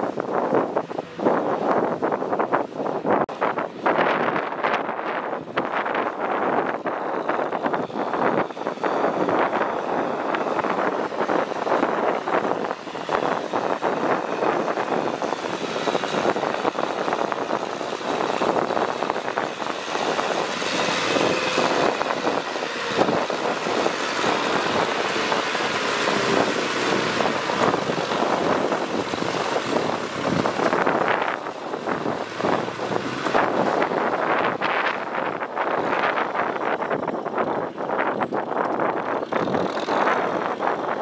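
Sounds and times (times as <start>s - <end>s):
diesel tractor running under load: 0.0s - 41.0s
tiller churning wet mud: 5.5s - 41.0s.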